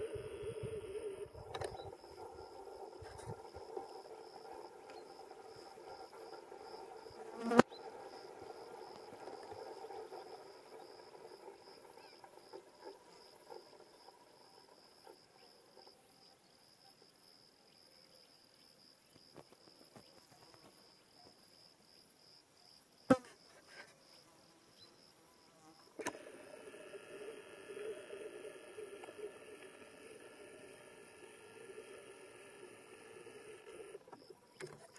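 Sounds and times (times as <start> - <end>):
cricket chirping: 0.0 - 34.9
faint insect buzz: 0.0 - 34.9.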